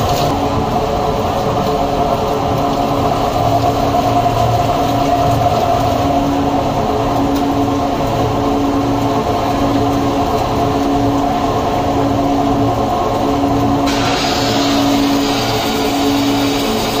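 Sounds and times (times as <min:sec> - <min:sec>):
factory machinery drone: 0:00.0 - 0:17.0.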